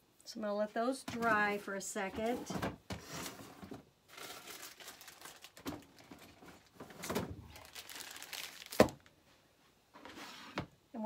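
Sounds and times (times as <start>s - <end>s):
rustling and crinkling: 1.0s - 10.7s.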